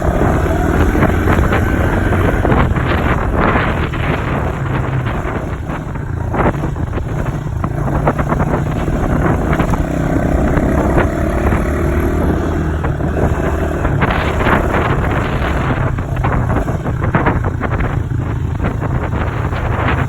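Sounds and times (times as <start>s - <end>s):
dirt bike engine running: 0.0s - 20.0s
wind buffeting microphone: 0.0s - 20.0s.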